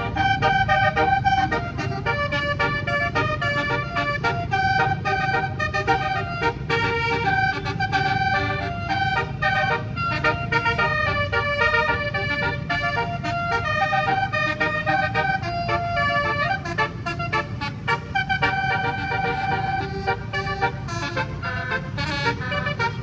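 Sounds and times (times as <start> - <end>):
musical air horn melody: 0.0 - 23.0.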